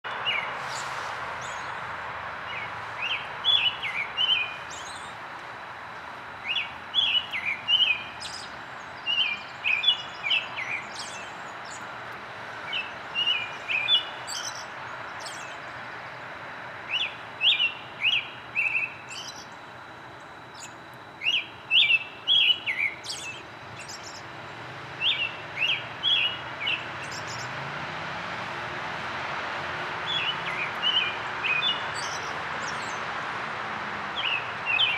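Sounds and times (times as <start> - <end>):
robin singing: 0.0 - 12.0, 12.6 - 27.6, 29.9 - 33.3, 34.1 - 34.9
steady background hiss: 0.1 - 34.9.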